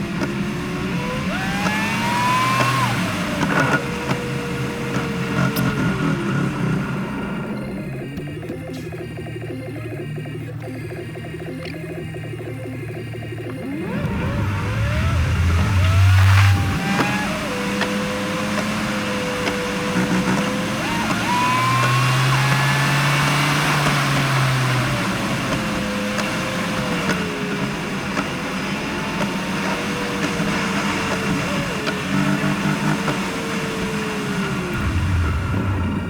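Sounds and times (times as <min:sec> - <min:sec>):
car engines running: 0:00.0 - 0:36.0.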